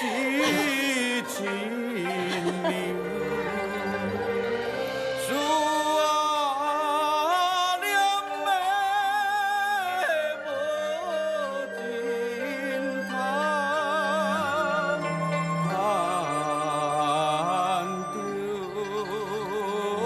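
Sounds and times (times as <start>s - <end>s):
instrumental accompaniment: 0.0s - 20.0s
person singing wavering notes: 0.0s - 20.0s.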